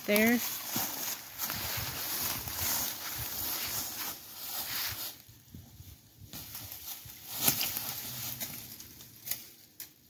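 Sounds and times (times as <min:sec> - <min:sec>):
footsteps crunching dry leaves: 0:00.0 - 0:05.4, 0:06.4 - 0:09.2.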